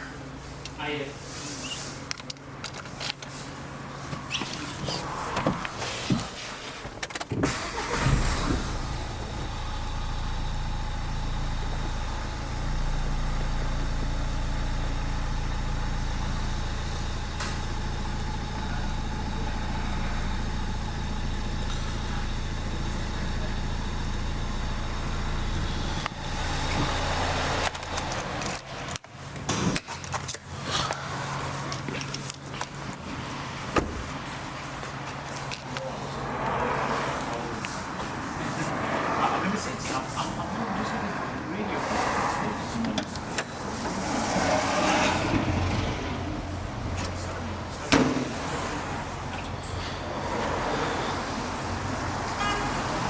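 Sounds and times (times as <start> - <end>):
car engine starting and idling: 0.0 - 53.0.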